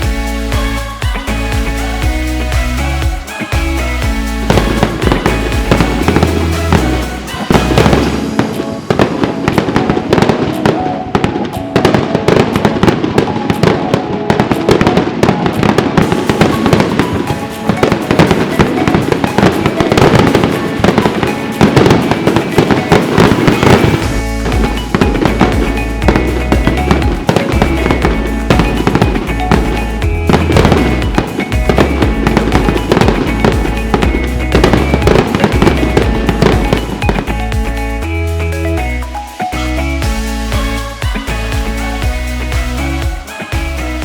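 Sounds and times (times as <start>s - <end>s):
fireworks bangs and crackling: 0.0s - 44.0s
music playing: 0.0s - 44.0s.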